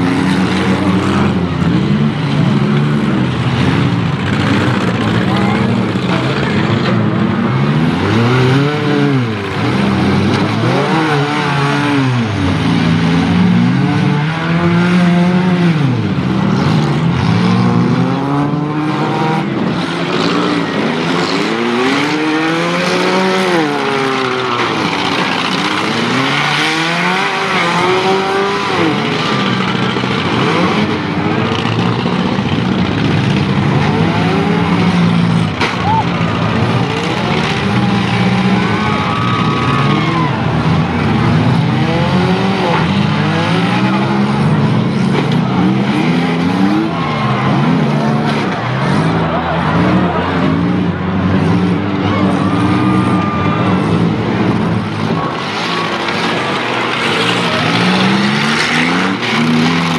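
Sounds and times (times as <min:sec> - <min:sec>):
car engines revving hard: 0:00.0 - 0:59.9
drone of many engines: 0:00.0 - 0:59.9.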